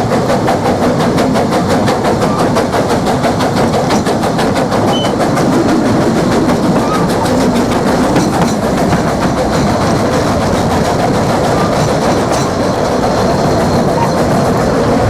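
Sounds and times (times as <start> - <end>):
train rumbling: 0.0 - 15.0
wheels clacking over rails: 0.0 - 15.0.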